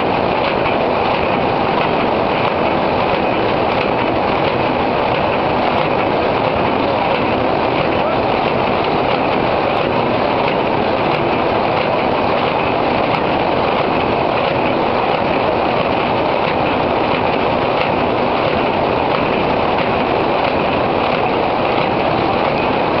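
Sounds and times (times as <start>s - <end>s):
paper bag machine running: 0.0s - 23.0s.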